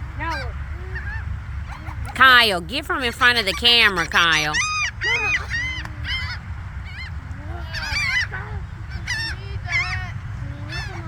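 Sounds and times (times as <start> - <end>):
seagulls squawking: 0.0 - 11.0.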